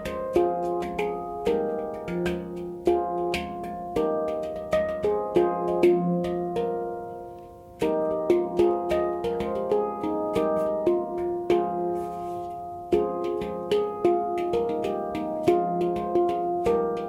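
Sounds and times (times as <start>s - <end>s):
handpan notes ringing: 0.0s - 17.0s.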